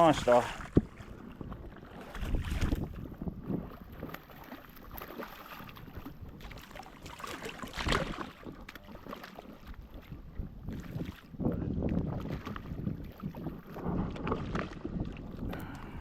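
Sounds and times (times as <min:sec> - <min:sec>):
wind buffeting microphone: 0:00.0 - 0:08.7, 0:09.4 - 0:16.0
water sloshing and splashing: 0:00.0 - 0:16.0.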